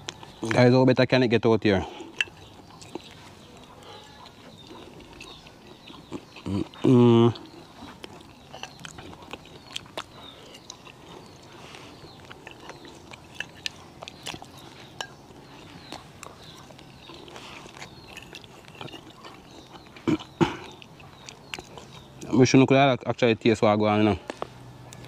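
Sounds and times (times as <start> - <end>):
person chewing: 1.9 - 22.4.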